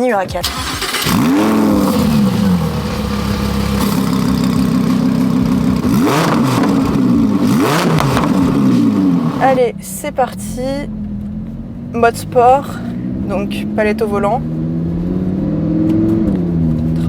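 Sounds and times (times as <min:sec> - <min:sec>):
car engine starting and idling: 0:00.0 - 0:17.0
engine revving: 0:00.4 - 0:17.0.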